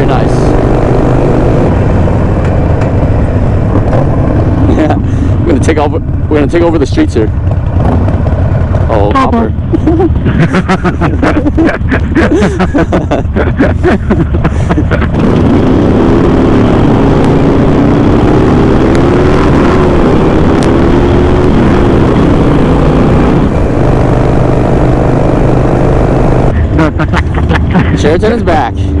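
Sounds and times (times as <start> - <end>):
motorcycles riding: 0.0 - 29.0.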